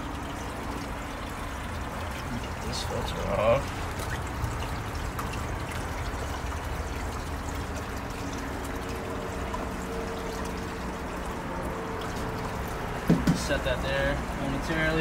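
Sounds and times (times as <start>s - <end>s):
faint steady hum: 0.0s - 15.0s
water pouring and trickling: 0.0s - 15.0s.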